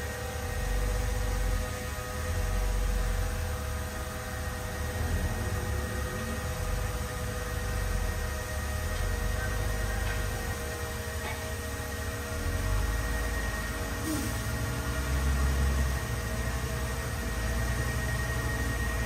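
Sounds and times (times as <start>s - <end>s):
bulldozer diesel engine rumble: 0.0s - 19.0s
high whine: 0.0s - 19.0s.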